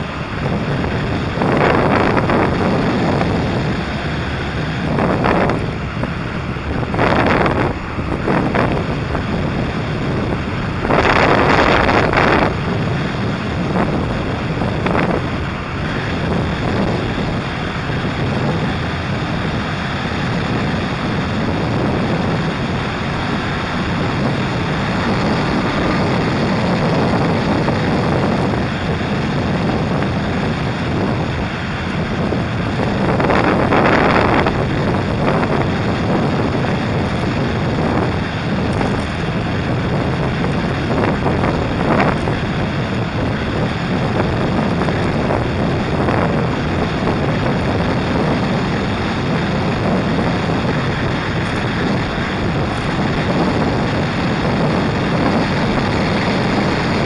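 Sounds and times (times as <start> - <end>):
motorcycle engine: 0.0 - 57.0
road rumble: 0.0 - 57.0
wind buffeting microphone: 0.0 - 57.0.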